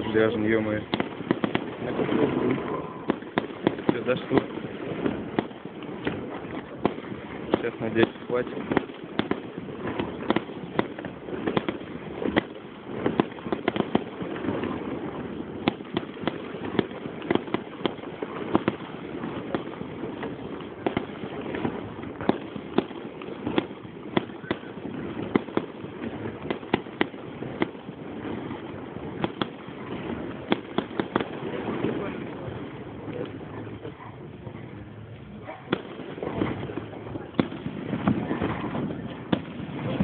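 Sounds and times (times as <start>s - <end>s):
fireworks bangs and cracks: 0.0s - 40.0s
steady background noise: 0.0s - 40.0s.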